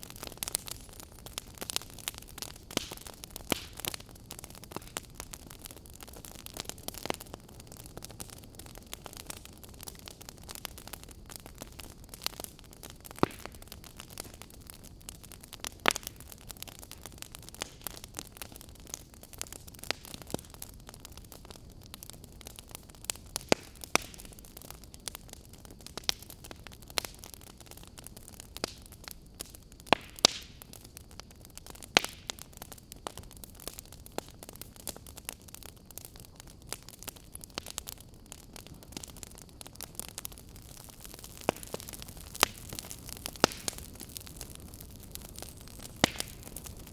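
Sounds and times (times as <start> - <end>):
sharp fire pops: 0.0 - 46.9
wood fire crackling: 0.0 - 46.9.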